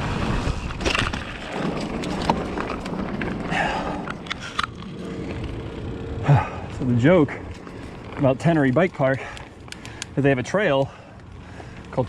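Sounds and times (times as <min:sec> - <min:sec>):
bike tyres crunching on gravel: 0:00.0 - 0:12.0
bike clicks and knocks: 0:00.5 - 0:12.0.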